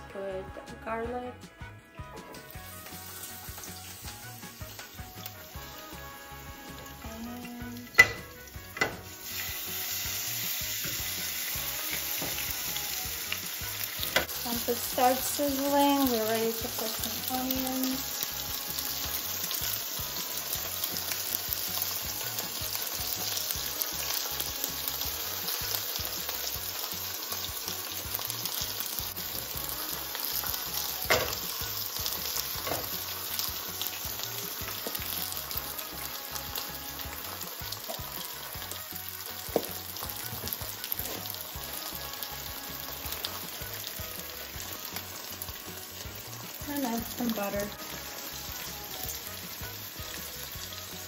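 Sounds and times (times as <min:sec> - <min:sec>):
meat and onions sizzling in pan: 0:01.6 - 0:51.0.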